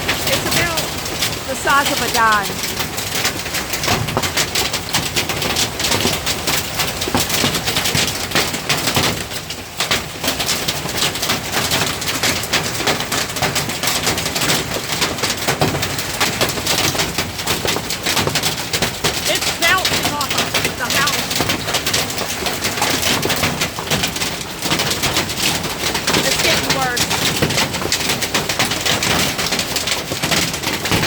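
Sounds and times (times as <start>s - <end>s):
hail clattering: 0.0s - 31.0s.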